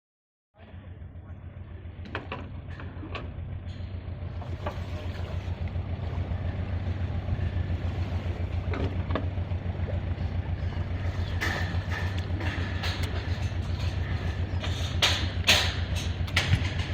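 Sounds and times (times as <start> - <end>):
pulsing motor drone: 0.6 - 16.9.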